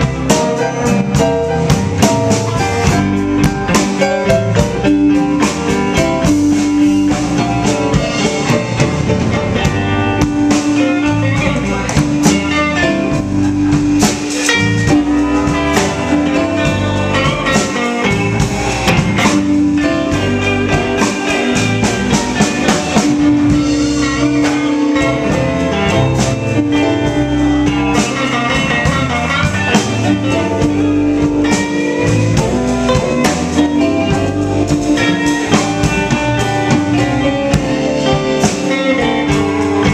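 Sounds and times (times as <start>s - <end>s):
blues band playing: 0.0s - 39.9s
drum kit: 0.0s - 39.9s
guitar: 0.0s - 39.9s.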